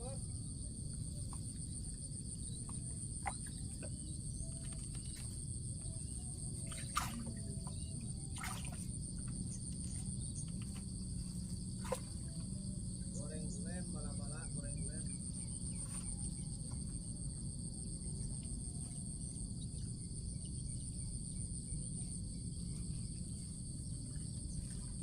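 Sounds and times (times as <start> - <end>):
insects trilling: 0.0 - 25.0
low background rumble: 0.0 - 25.0.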